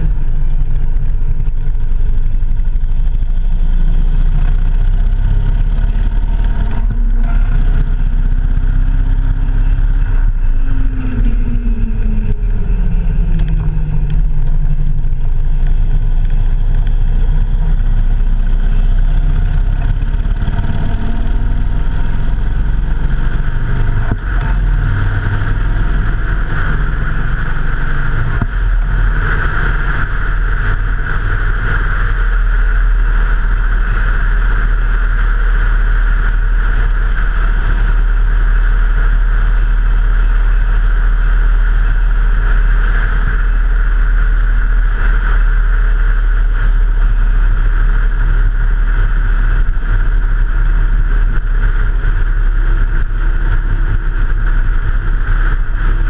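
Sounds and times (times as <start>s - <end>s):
motorcycle engine drone: 0.0s - 56.0s
wind and road rush: 0.0s - 56.0s.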